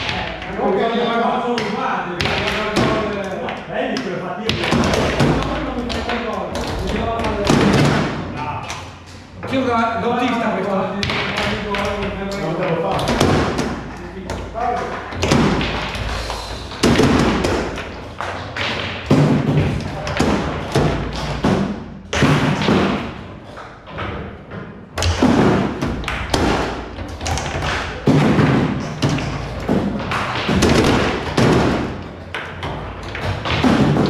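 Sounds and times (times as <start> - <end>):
foosball knocks and thuds: 0.0 - 0.8, 1.6 - 8.3, 11.0 - 34.0.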